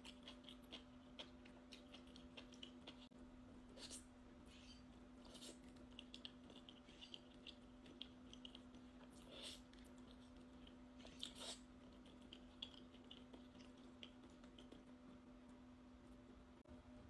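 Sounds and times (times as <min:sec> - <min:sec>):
chewing with mouth clicks: 0:00.0 - 0:15.6
low steady hum: 0:00.0 - 0:17.0.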